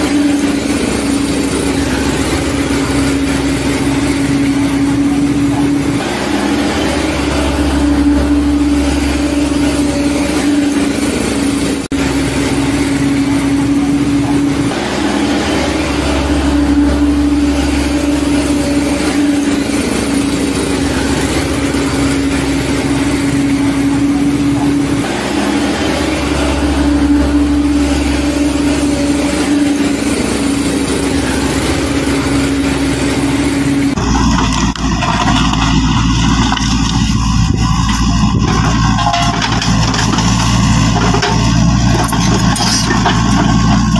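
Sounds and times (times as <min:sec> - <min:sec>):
truck engine humming: 0:00.0 - 0:43.9.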